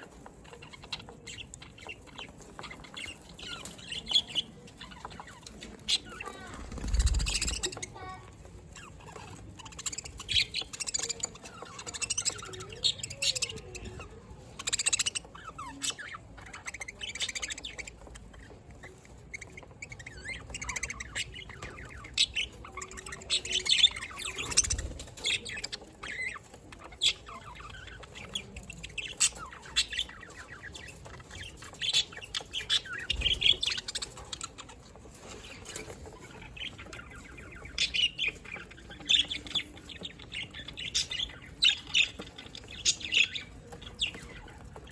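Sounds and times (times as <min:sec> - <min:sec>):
budgerigars chirping and warbling: 0:00.0 - 0:44.9.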